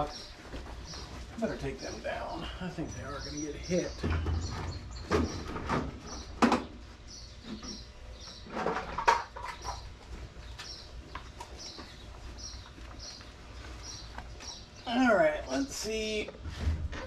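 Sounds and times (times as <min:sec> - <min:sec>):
bird chirping: 0:00.0 - 0:15.7.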